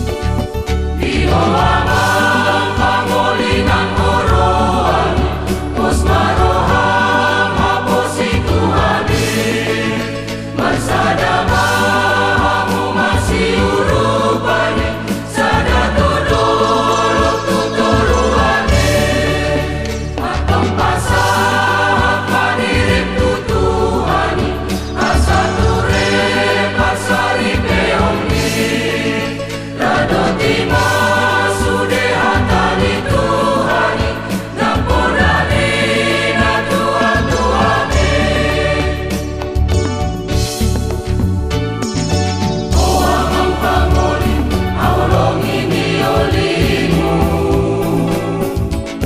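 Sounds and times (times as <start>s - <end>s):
choir singing: 1.0s - 39.7s, 42.7s - 49.0s.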